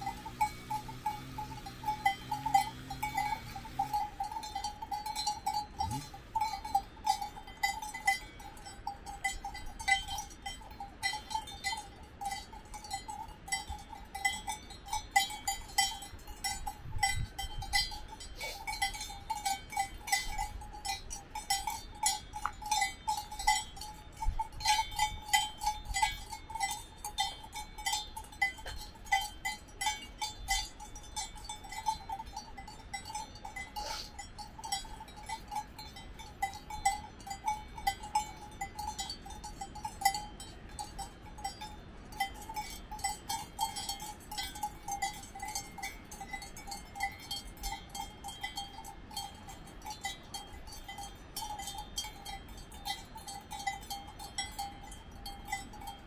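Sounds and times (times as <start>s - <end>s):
cow bells clanking: 0.0s - 56.0s.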